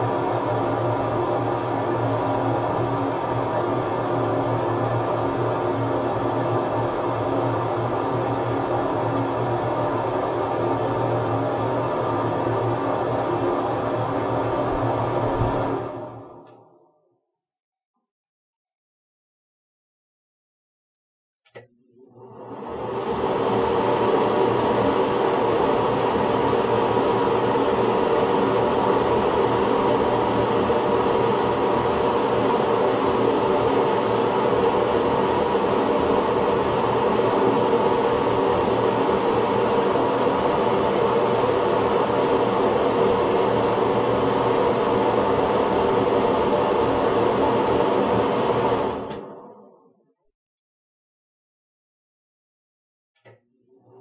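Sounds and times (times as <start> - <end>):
ventilation fan humming: 0.0 - 16.5, 22.2 - 49.4.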